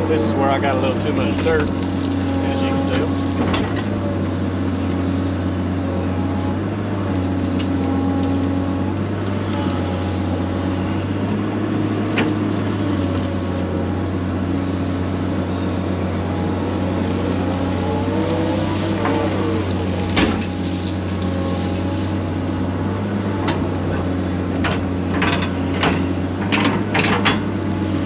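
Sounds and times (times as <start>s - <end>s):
excavator diesel engine running: 0.0s - 28.0s
hydraulic whine: 0.0s - 28.0s.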